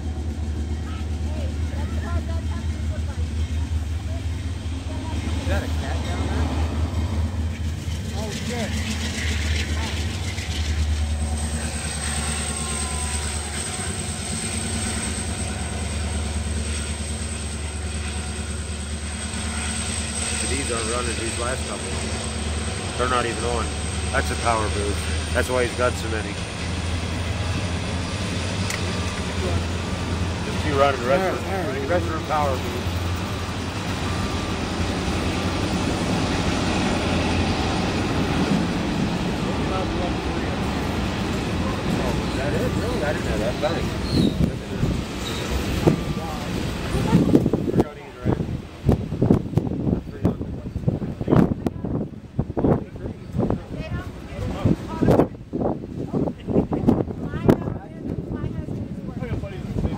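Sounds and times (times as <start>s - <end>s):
locomotive engine rumble: 0.0s - 59.9s.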